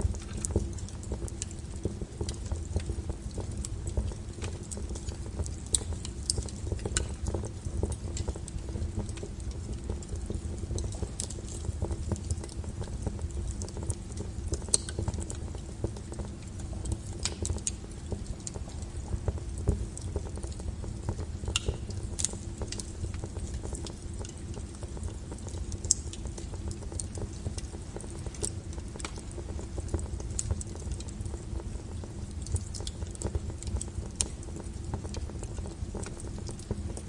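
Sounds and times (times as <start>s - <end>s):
low rumble of flames: 0.0s - 37.0s
sharp pops and snaps: 0.0s - 37.0s
wood fire crackling: 0.0s - 37.0s.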